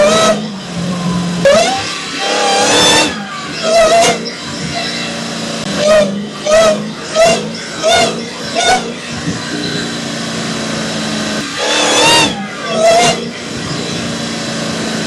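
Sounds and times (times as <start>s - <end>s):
engine idling with throttle blips: 0.0s - 15.0s.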